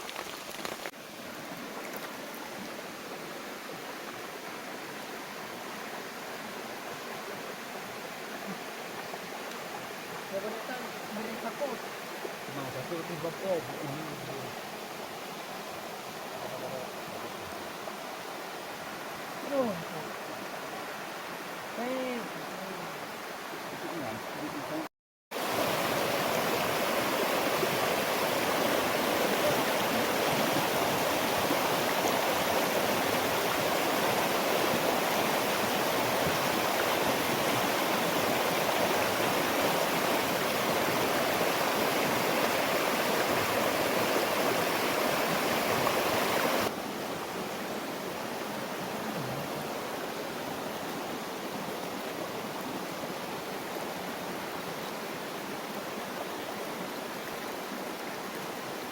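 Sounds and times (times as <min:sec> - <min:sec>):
rushing water: 0:00.0 - 0:58.9.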